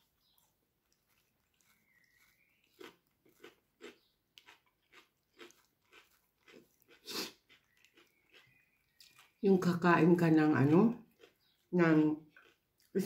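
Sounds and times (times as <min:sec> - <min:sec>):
person chewing crunchy salad: 0:00.0 - 0:09.4, 0:10.6 - 0:13.0.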